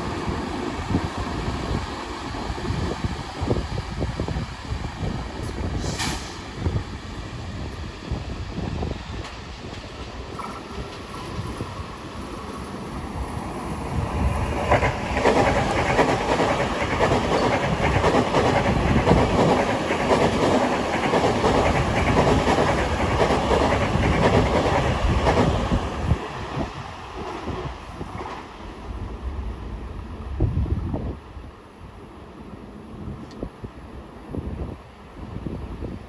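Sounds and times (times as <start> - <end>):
train passing on tracks: 0.0 - 36.0.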